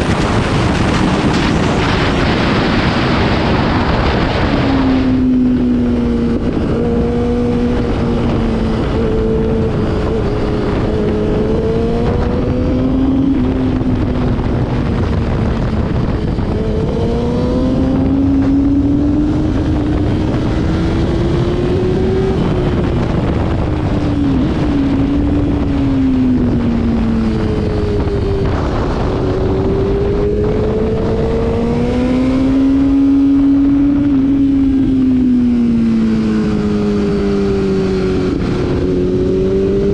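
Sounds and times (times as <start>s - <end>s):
wind rush: 0.0s - 39.9s
motorcycle engine running: 3.2s - 39.9s.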